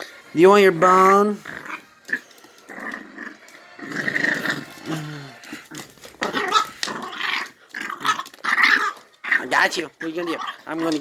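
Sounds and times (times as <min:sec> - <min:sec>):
puppy growling: 0:00.0 - 0:11.0.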